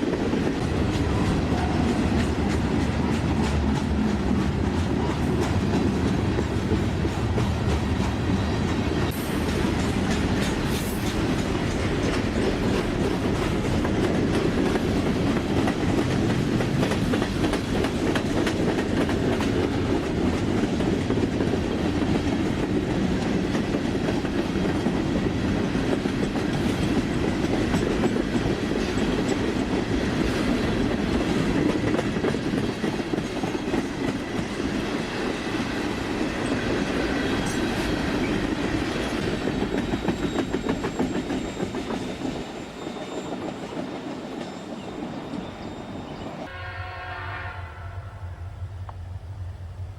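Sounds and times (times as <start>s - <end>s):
train wheels clattering over rails: 0.0s - 45.8s.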